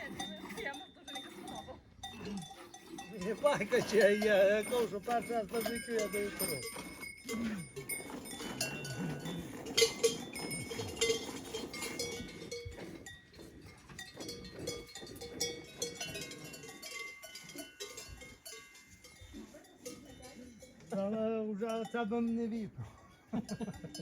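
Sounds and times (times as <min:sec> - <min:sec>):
livestock bells clanking: 0:00.0 - 0:24.0.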